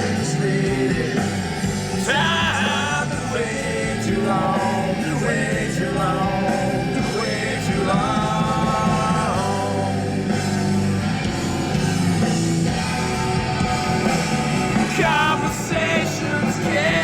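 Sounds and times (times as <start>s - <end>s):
song with vocal guitar and beat: 0.0s - 17.0s.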